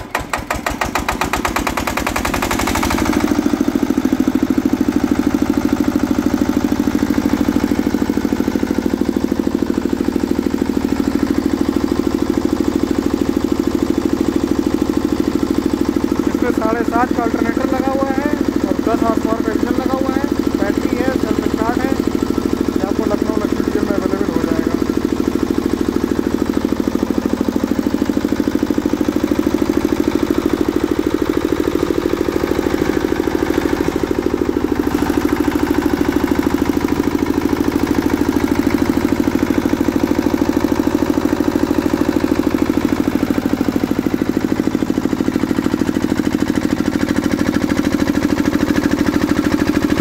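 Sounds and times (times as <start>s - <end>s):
diesel generator engine running: 0.0s - 50.0s.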